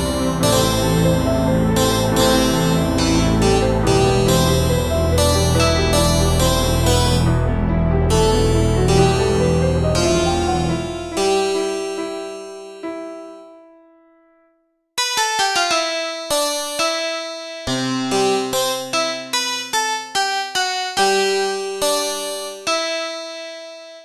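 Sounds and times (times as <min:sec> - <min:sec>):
solo harpsichord playing: 0:00.0 - 0:14.0, 0:15.0 - 0:24.0.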